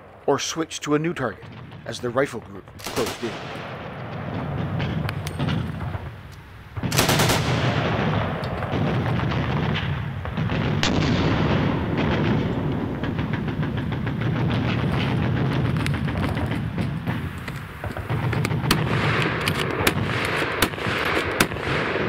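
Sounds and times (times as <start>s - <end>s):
steady low rumble: 0.0s - 22.0s
heavy gunfire: 1.3s - 22.0s.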